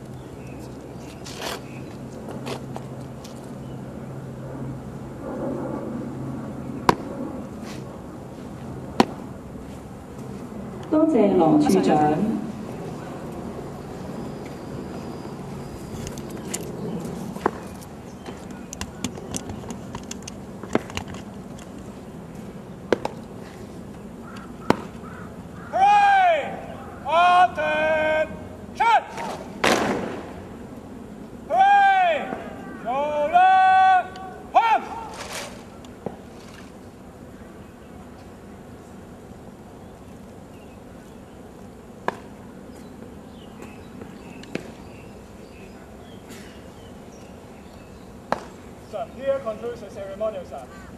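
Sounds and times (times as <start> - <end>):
low background hum: 0.0 - 50.9
steady background noise: 0.0 - 50.9.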